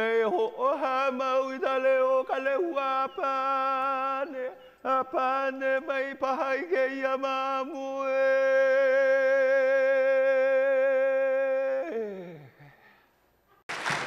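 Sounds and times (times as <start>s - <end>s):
person chanting: 0.0s - 12.5s.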